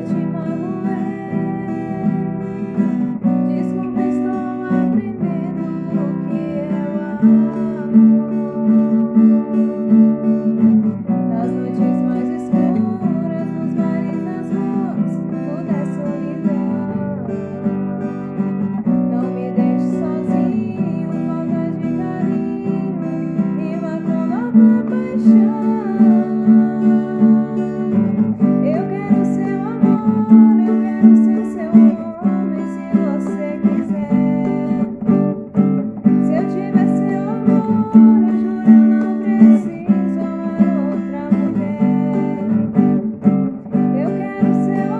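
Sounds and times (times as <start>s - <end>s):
acoustic guitar strumming: 0.0s - 44.9s
person singing: 0.0s - 44.9s.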